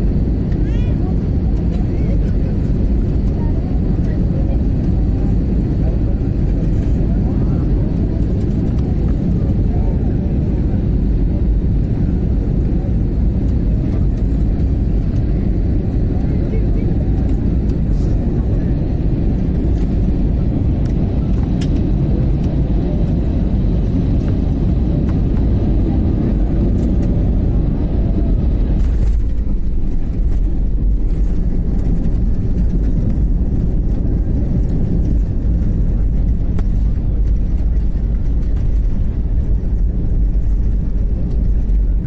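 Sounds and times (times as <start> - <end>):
jet engine and airflow rumble: 0.0 - 42.0
runway rumble: 0.0 - 42.0.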